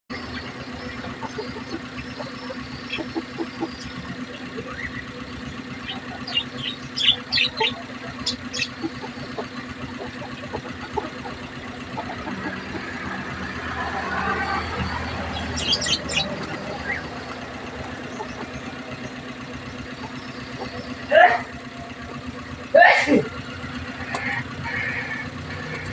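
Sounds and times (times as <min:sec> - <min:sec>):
lovebirds chirping: 0:00.1 - 0:21.1
steady low hum: 0:00.1 - 0:25.9.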